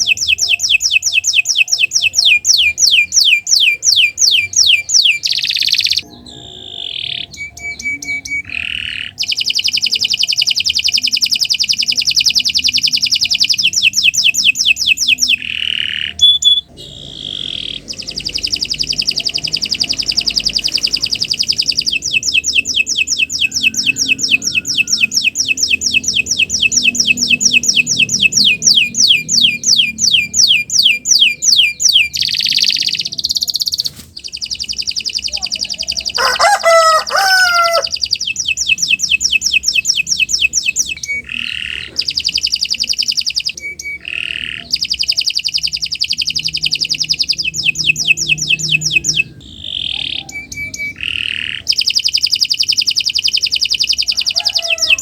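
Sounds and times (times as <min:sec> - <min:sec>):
canary singing fast trills: 0:00.0 - 0:55.0.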